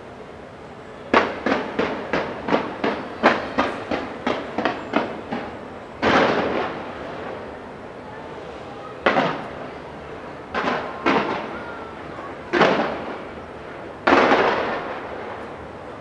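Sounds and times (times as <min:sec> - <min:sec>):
fireworks bangs: 0:01.1 - 0:07.5, 0:09.0 - 0:15.8.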